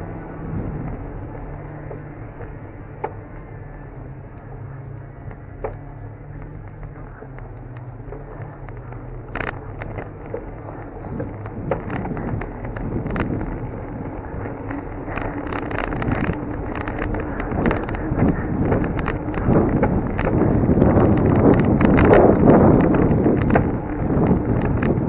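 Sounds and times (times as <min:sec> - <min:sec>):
bicycle tyre road rumble: 0:00.0 - 0:25.0
wind on microphone: 0:00.0 - 0:25.0.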